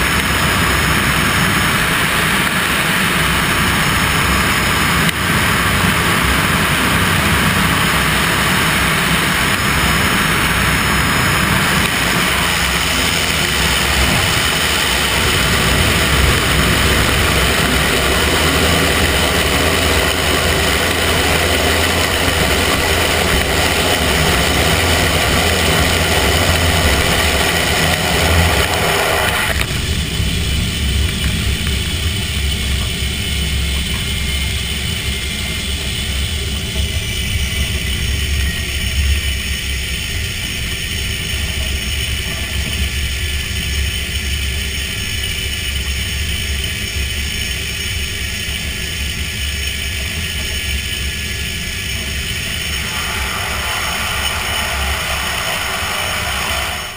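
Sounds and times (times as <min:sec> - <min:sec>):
rushing airflow: 0:00.0 - 0:43.8, 0:48.4 - 0:56.9
turboprop engine and propeller: 0:00.0 - 0:56.9.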